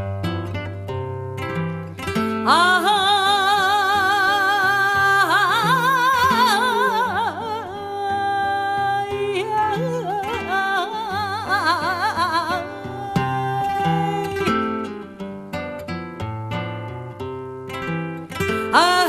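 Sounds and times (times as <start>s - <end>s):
acoustic guitar: 0.0s - 19.0s.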